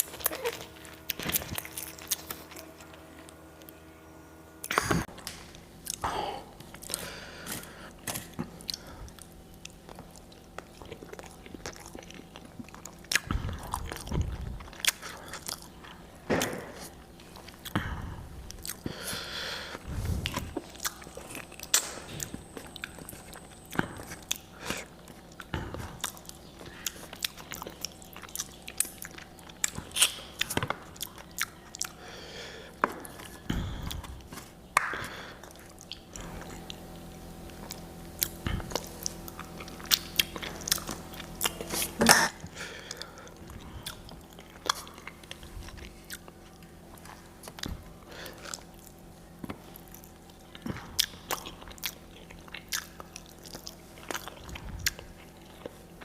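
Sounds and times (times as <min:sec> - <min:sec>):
chewing and crunching: 0:00.0 - 0:03.9, 0:04.6 - 0:56.0.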